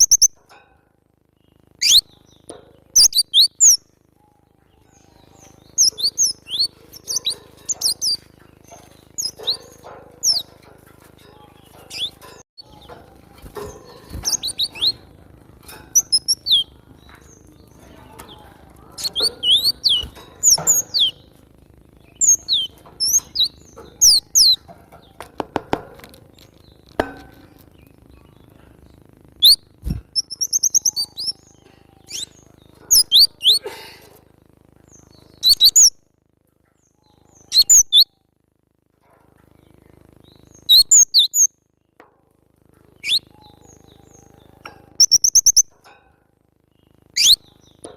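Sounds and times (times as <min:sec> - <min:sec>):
bird chirping: 0:00.0 - 0:00.6, 0:01.3 - 0:33.6, 0:34.8 - 0:36.0, 0:36.8 - 0:38.3, 0:39.5 - 0:42.0, 0:42.8 - 0:46.0, 0:46.6 - 0:47.9
buzzy rattling bird call: 0:00.0 - 0:00.6, 0:01.4 - 0:04.2, 0:04.8 - 0:33.9, 0:34.7 - 0:36.0, 0:37.2 - 0:38.1, 0:42.8 - 0:46.0, 0:46.6 - 0:47.9.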